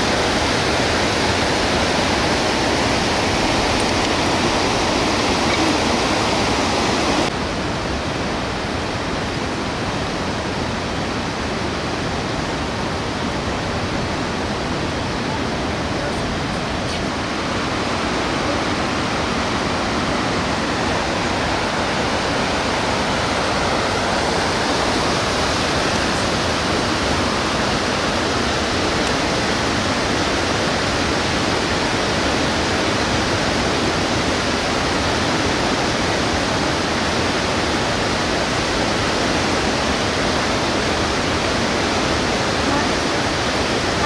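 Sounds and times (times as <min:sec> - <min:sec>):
river rapids roaring: 0:00.0 - 0:44.0.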